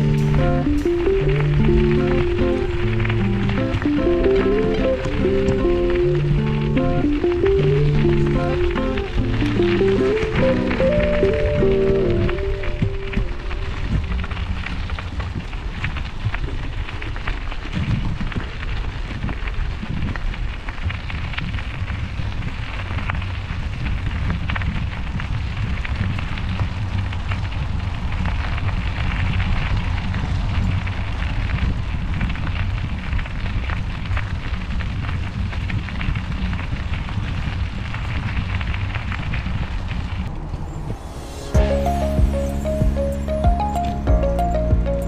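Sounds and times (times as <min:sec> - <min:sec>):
wind buffeting microphone: 0:00.0 - 0:41.4.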